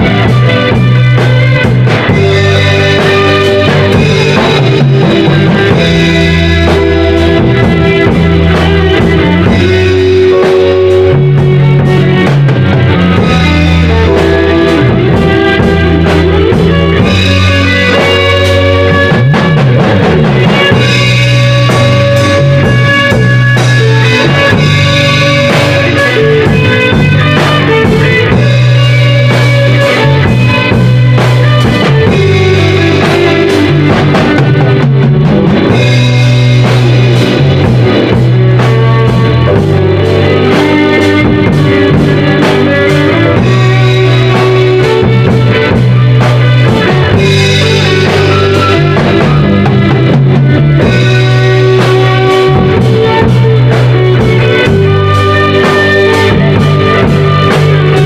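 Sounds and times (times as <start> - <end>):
low bass line: 0.0 - 58.0
rock band playing blues jam: 0.0 - 58.0.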